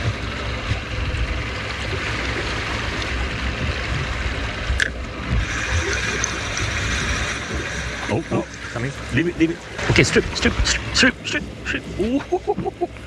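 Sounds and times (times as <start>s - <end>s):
low rumble: 0.0s - 13.0s
water noise: 0.0s - 13.0s
wind: 0.0s - 13.0s.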